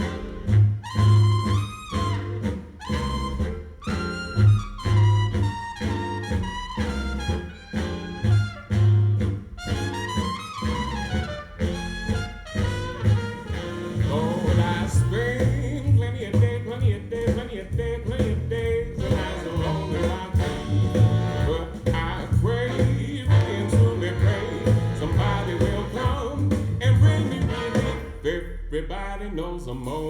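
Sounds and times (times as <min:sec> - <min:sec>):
instrumental jazz over loudspeakers: 0:00.0 - 0:28.7
pulsing bass line: 0:00.0 - 0:29.6.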